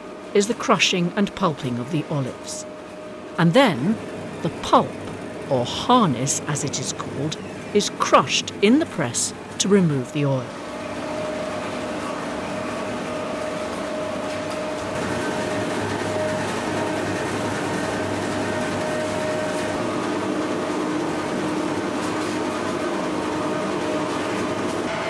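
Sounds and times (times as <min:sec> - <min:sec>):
mill machinery humming: 0:00.0 - 0:25.0.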